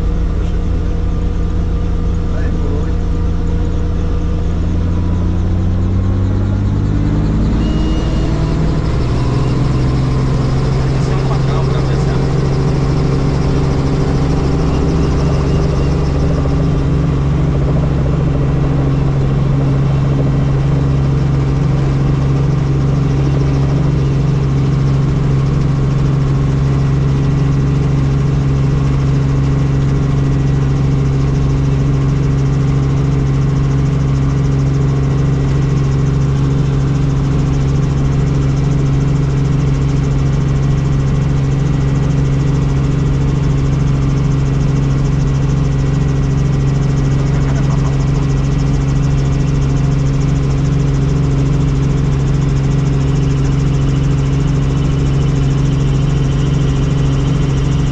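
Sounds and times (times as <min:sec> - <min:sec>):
helicopter drone: 0:00.0 - 0:57.9.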